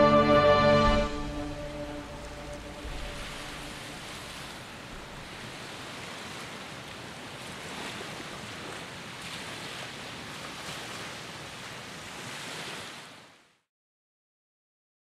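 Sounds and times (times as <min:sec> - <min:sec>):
sea waves washing ashore: 0:00.0 - 0:13.7.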